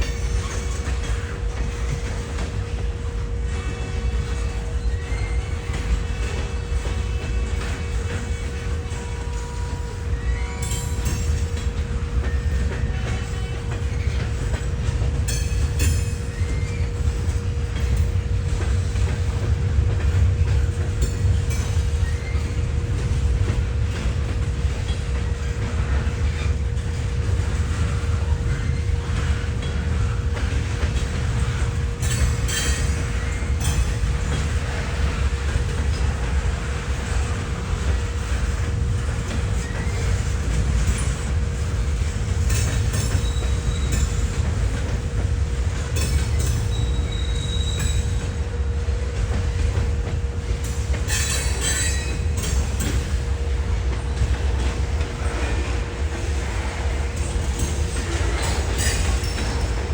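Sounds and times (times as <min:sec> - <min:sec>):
train rumbling past: 0:00.0 - 0:59.9
train wheel clicks: 0:00.0 - 0:59.9.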